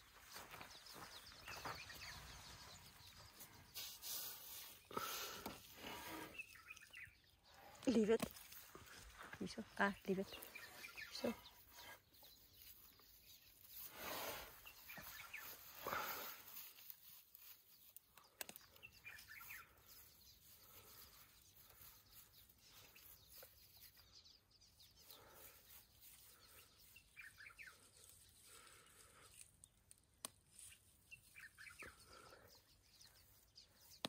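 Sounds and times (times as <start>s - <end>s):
small birds chirping faintly: 0.0s - 34.0s.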